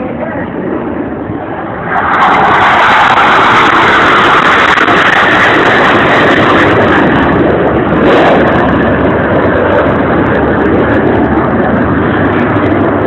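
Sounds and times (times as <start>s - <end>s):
jets flying by: 0.0s - 13.0s.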